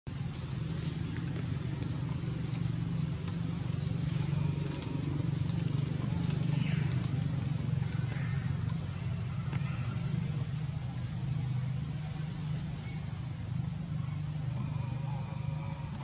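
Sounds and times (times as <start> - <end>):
engine humming: 0.1 - 16.0.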